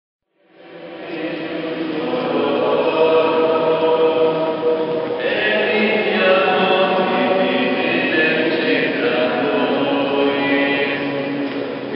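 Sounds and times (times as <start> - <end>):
congregation singing a hymn: 0.4 - 11.9.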